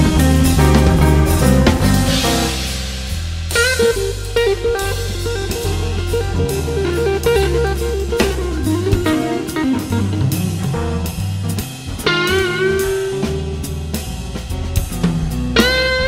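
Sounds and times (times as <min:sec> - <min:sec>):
guitar melody: 0:00.0 - 0:02.8, 0:03.5 - 0:14.4, 0:15.4 - 0:16.0
bass line: 0:00.0 - 0:16.0
drum kit beat: 0:00.0 - 0:16.0.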